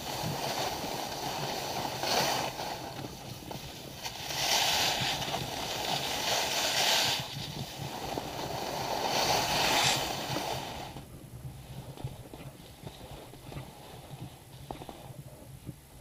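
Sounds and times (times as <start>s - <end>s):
skis scraping over snow: 0.0s - 15.5s
wind on microphone: 0.0s - 16.0s.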